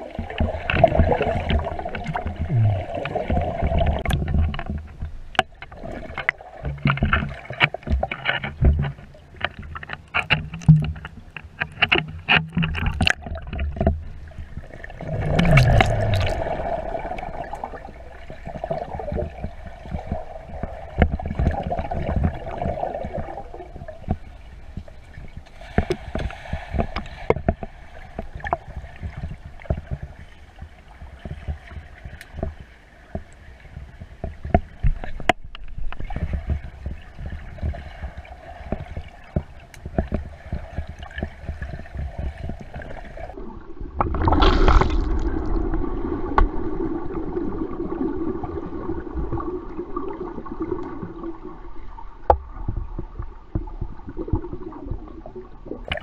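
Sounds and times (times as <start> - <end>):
underwater clicks and knocks: 0.0 - 47.1, 48.0 - 56.0
underwater gurgling water: 0.0 - 56.0.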